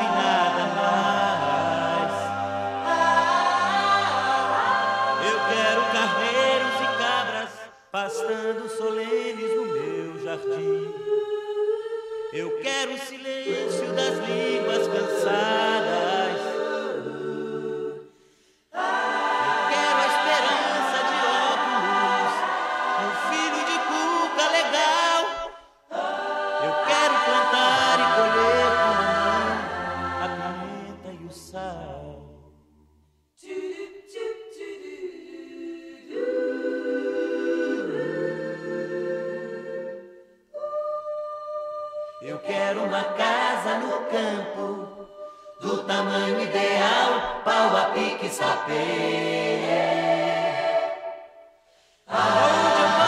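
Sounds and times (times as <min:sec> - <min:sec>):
choir singing a cappella: 0:00.0 - 0:32.7, 0:33.4 - 0:53.0.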